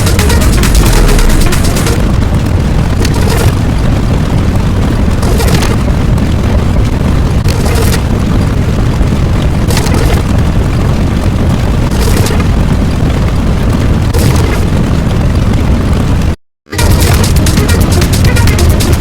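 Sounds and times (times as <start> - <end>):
booming explosion rumble: 0.0 - 19.0.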